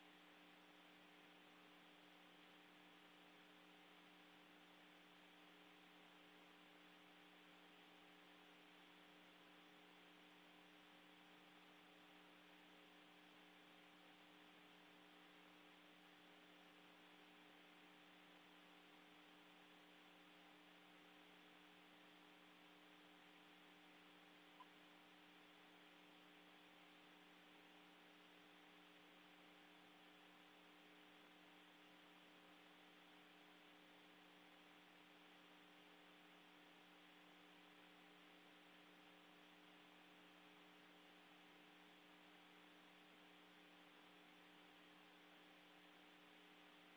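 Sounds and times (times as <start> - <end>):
faint electrical hum with hiss: 0.0 - 46.9.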